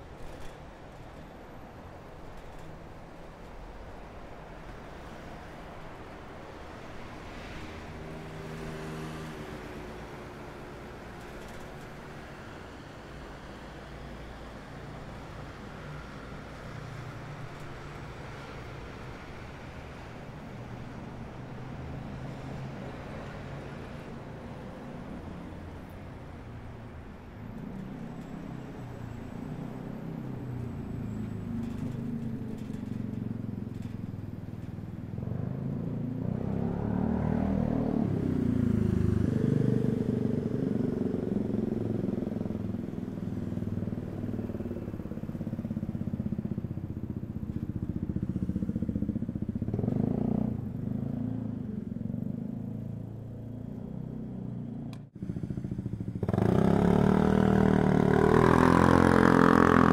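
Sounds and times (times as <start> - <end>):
road rumble: 0.0 - 59.9
motor vehicles passing: 4.8 - 59.9.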